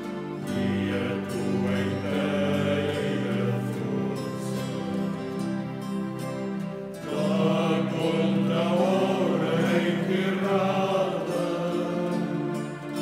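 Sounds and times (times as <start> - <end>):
mixed choir singing: 0.0 - 5.9, 6.9 - 13.0.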